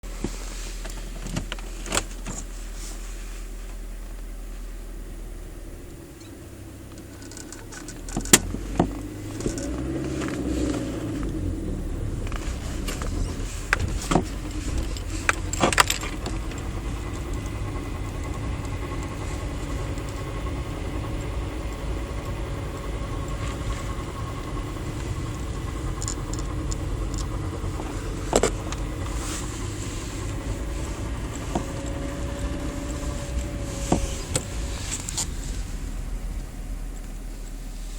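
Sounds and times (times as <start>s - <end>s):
car engine rumble: 0.0s - 37.9s.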